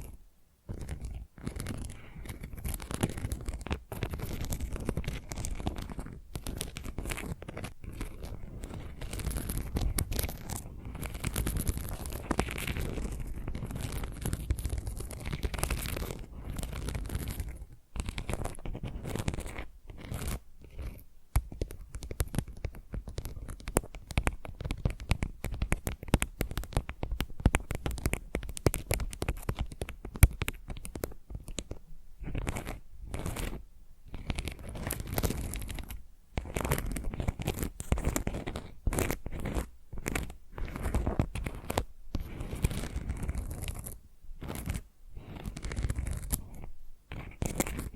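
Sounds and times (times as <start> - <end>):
fingernails scratching and tapping tile: 0.0 - 47.9.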